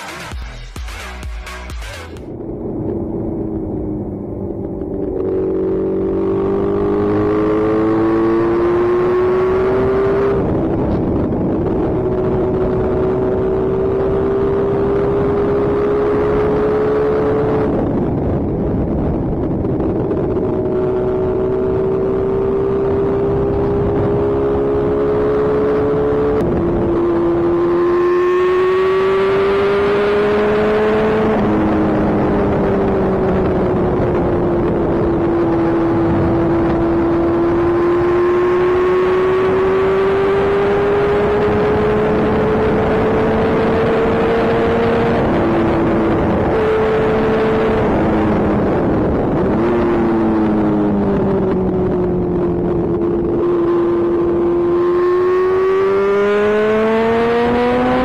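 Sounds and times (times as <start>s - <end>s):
motorcycle engine at speed: 1.9s - 58.0s
rushing wind noise: 2.2s - 58.0s.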